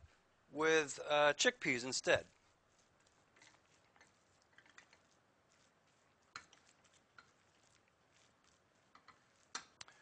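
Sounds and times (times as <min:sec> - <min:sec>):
paste being mixed in a bowl: 0:01.4 - 0:10.0.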